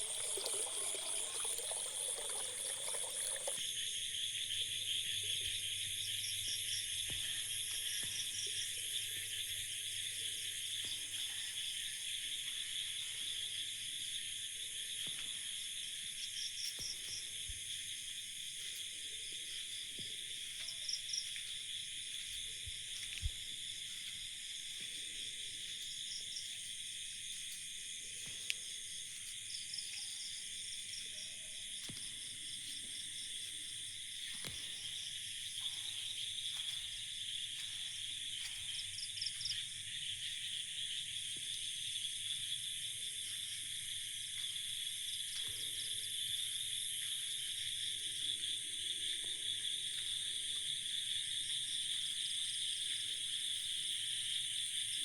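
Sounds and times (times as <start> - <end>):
crickets trilling: 0.0 - 15.0, 15.7 - 55.0.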